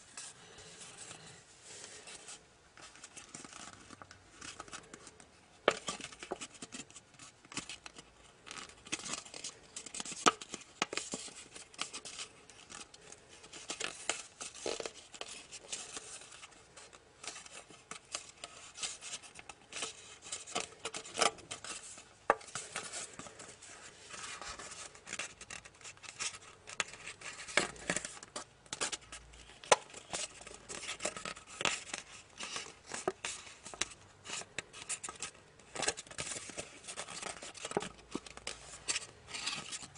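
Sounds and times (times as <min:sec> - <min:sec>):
paper crackling and creasing: 0:00.0 - 0:39.9.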